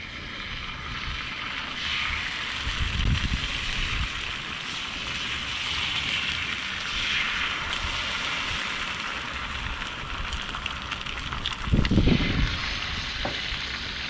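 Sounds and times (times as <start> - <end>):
eggs sizzling on a griddle: 0.0 - 14.0.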